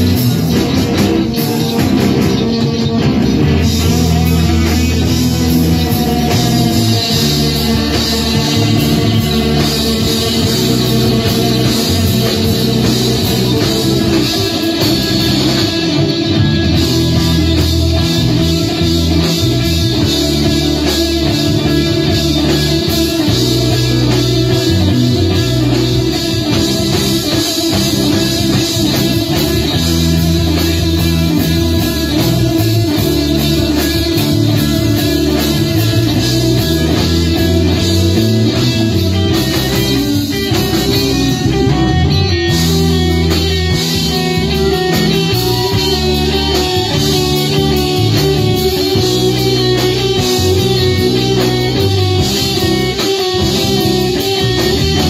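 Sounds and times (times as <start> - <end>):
bass guitar: 0.0 - 55.0
drum kit: 0.0 - 55.0
electric guitars: 0.0 - 55.0.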